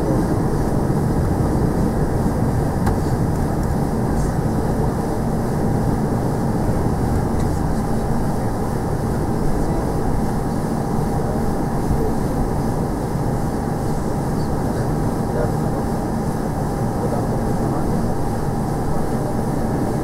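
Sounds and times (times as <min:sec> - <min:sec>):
airliner taxiing rumble and hiss: 0:00.0 - 0:20.0.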